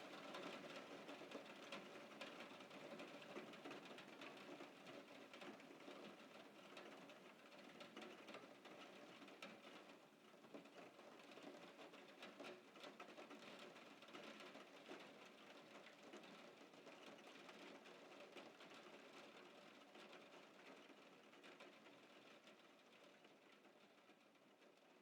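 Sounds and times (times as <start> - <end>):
faint rain patter: 0.0 - 25.0.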